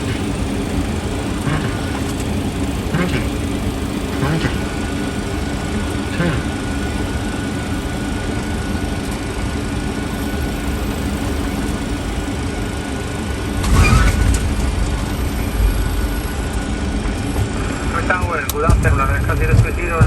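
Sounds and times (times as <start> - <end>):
aircraft cockpit rush and rumble: 0.0 - 20.0.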